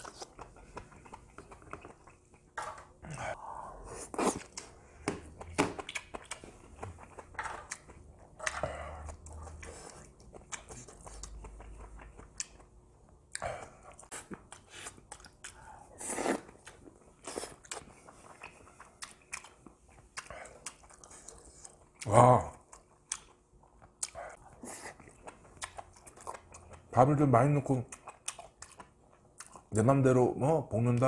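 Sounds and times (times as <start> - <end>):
chewing with wet mouth smacks: 0.0 - 2.6, 5.3 - 15.8, 16.4 - 26.9, 27.8 - 29.7.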